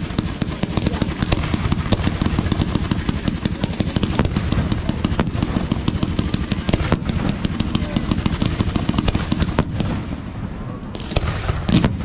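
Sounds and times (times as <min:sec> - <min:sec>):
continuous low rumble: 0:00.0 - 0:12.0
fireworks bangs and crackles: 0:00.0 - 0:12.0.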